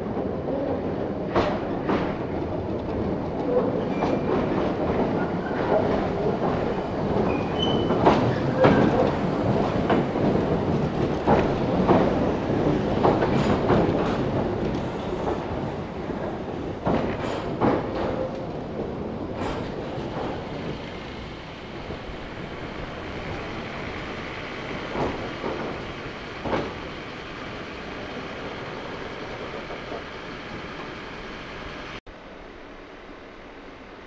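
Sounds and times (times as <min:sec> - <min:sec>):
electric train running past: 0:00.0 - 0:34.0
wheels knocking over rail joints: 0:03.4 - 0:30.9.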